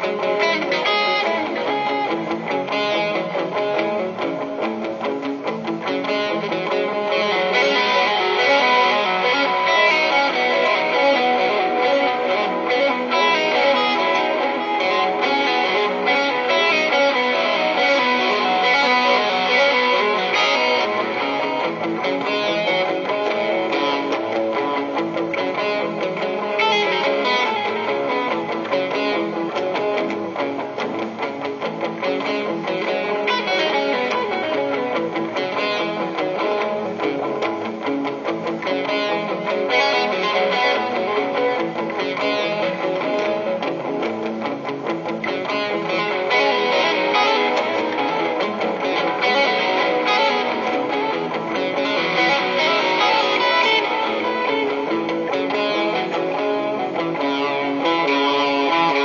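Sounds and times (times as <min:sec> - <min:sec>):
electric guitar melody: 0:00.0 - 0:59.0.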